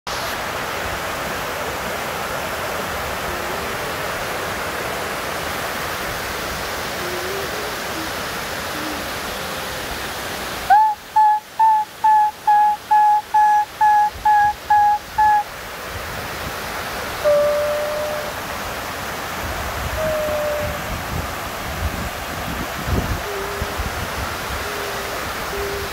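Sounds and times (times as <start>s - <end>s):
water rushing down a cascade: 0.1s - 25.9s.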